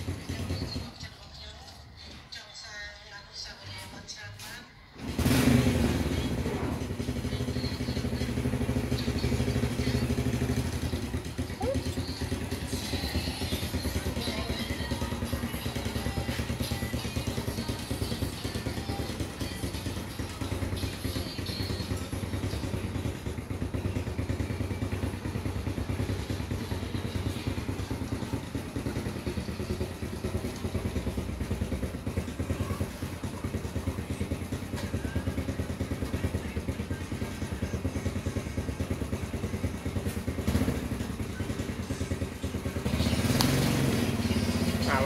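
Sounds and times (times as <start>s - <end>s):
small engine puttering: 5.0s - 45.0s.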